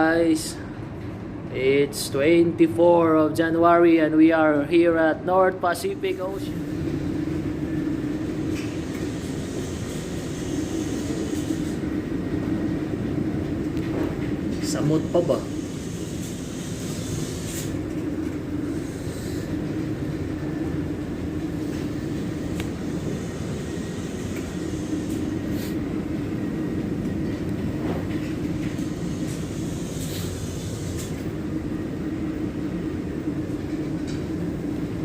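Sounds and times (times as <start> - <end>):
ship engine drone: 0.0 - 35.0.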